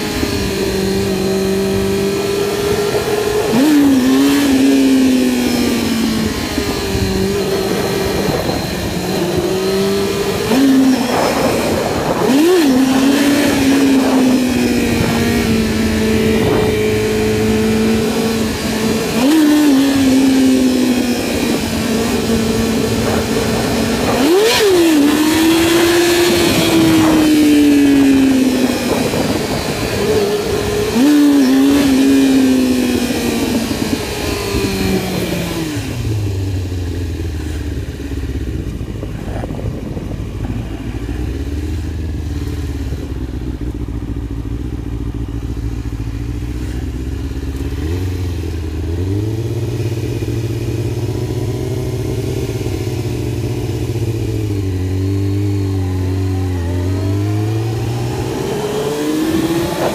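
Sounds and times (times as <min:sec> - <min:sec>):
wind noise: 0:00.0 - 0:46.9, 0:47.7 - 0:59.9
motorcycle engine revving: 0:00.0 - 0:59.9.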